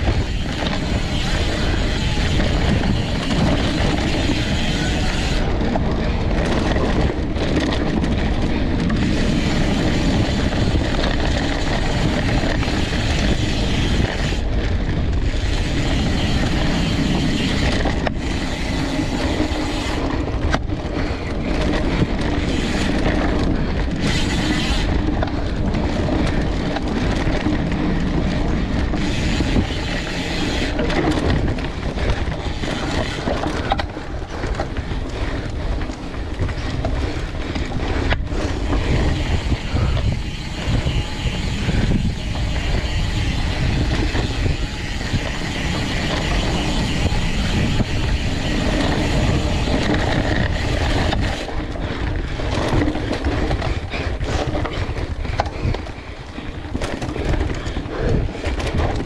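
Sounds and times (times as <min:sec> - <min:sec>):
bike rattling over bumps: 0:00.0 - 0:59.0
bike tyre noise on dirt: 0:00.0 - 0:59.0
wind on microphone: 0:00.0 - 0:59.0.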